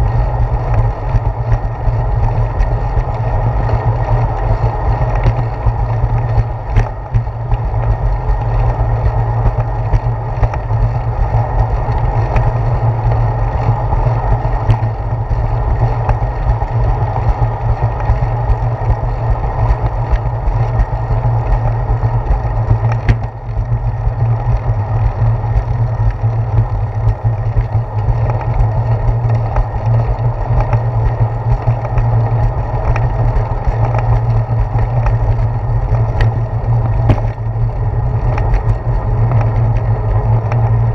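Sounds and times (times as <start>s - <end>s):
bicycle wheels knocking on joints: 0.0s - 40.9s
wind and road rumble: 0.0s - 40.9s.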